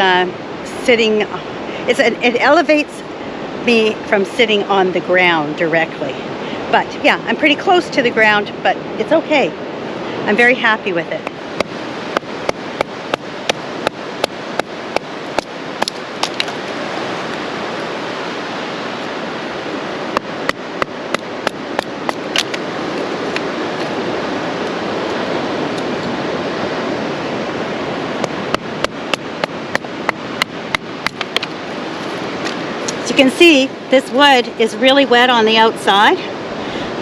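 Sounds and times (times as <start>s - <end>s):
surf hiss: 0.0s - 37.0s.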